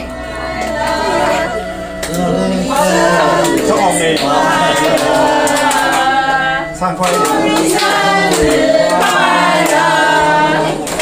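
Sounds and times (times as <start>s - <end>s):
group singing: 0.0s - 11.0s
hand clapping: 1.9s - 11.0s.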